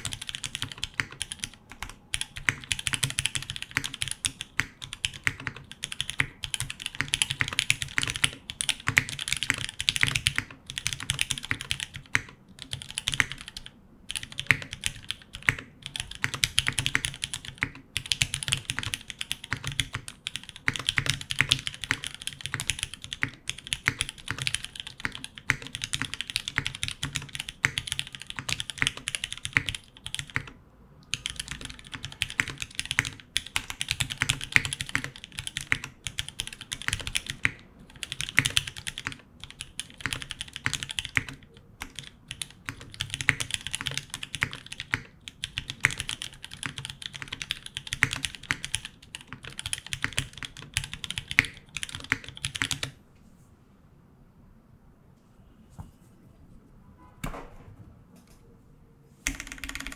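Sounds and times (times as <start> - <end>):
mechanical keyboard typing: 0.0 - 53.0, 59.2 - 59.9.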